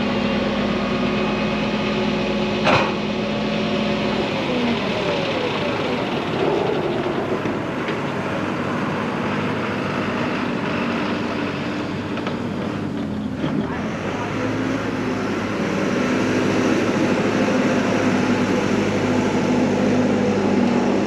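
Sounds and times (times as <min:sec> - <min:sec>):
bulldozer engine running: 0:00.0 - 0:21.0.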